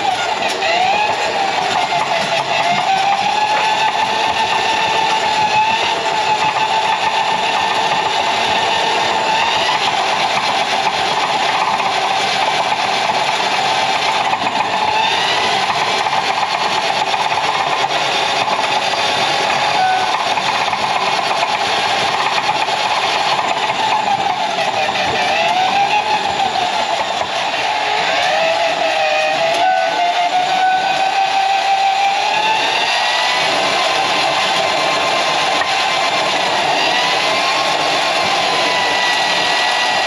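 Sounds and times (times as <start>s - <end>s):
drain cleaning machine motor whine: 0.0s - 40.0s.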